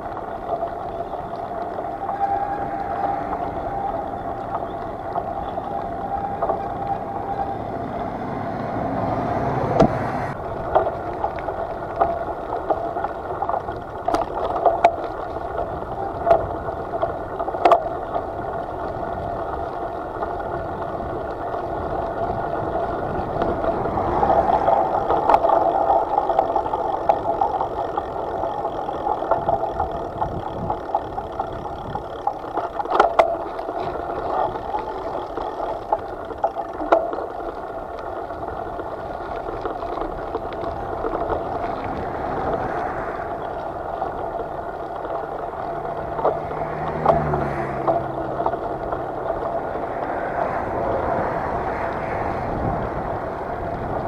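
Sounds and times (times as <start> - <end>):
bicycle tyre noise: 0.0 - 54.0.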